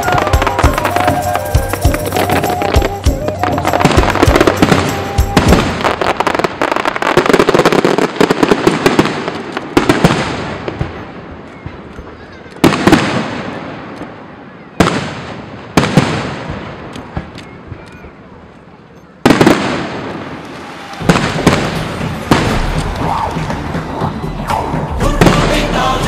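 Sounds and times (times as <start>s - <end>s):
fireworks banging and crackling: 0.0s - 26.0s.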